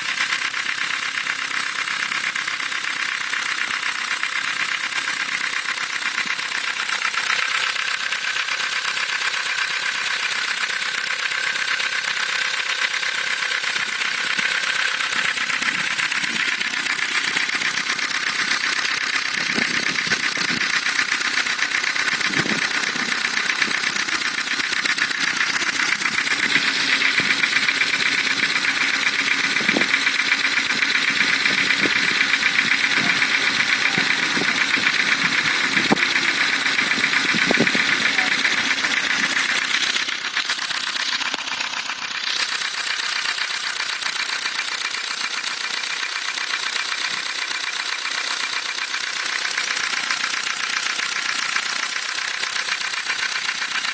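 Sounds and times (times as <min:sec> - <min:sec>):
car engine running with knock: 0:00.0 - 0:53.9.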